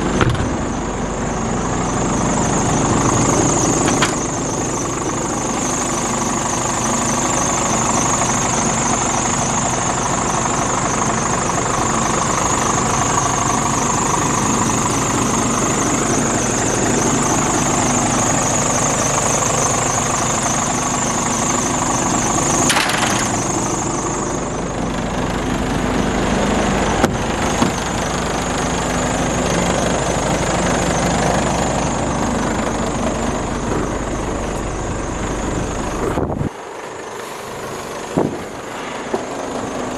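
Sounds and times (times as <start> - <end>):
diesel truck engine idling: 0.0 - 39.9
high whine: 0.0 - 39.9.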